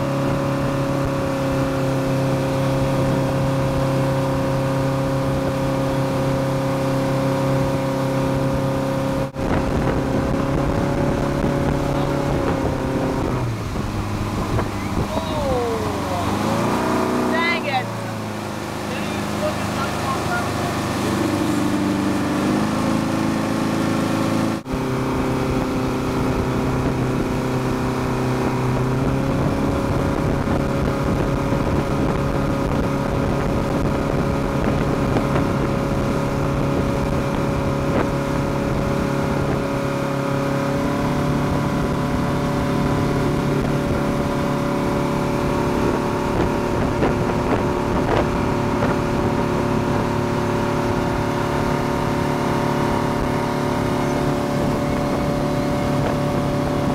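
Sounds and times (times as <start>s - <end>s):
motorboat engine droning: 0.0s - 56.9s
rushing water: 0.0s - 56.9s.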